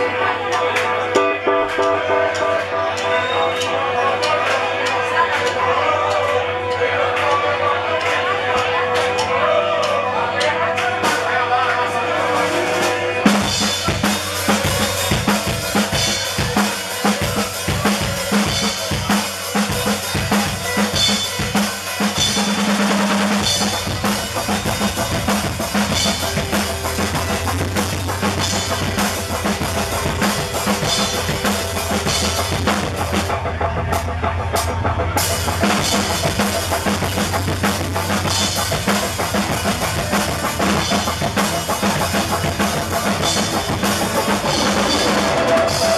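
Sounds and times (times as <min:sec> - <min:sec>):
live band playing: 0:00.0 - 0:45.9.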